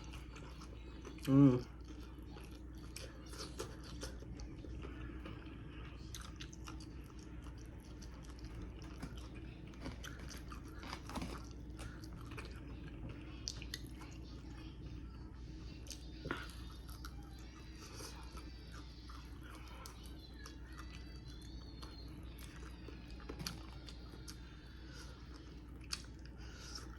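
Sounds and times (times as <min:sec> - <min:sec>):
crunchy chewing: 0:00.0 - 0:14.4, 0:15.8 - 0:26.9.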